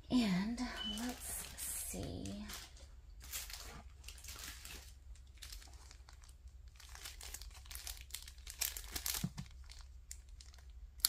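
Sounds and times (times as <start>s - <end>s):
plastic packets crinkling: 0.6s - 11.0s.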